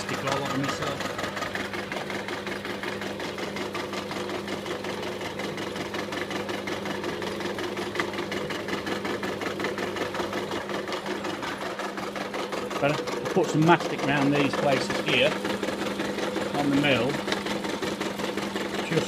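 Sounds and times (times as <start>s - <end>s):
milling machine motor hum: 0.0s - 19.0s.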